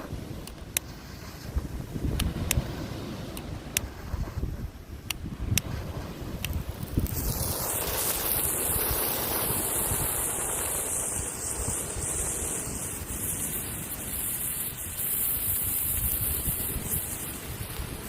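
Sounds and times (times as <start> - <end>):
firework hissing sparks: 0.0 - 18.0
wind on microphone: 0.0 - 18.0.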